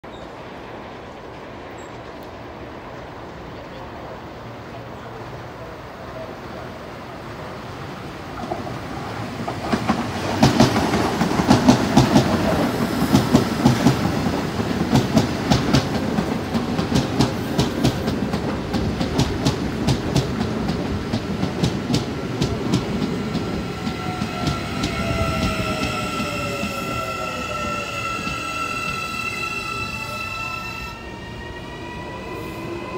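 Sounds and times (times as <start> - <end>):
train whining as it slows: 0.1 - 32.9.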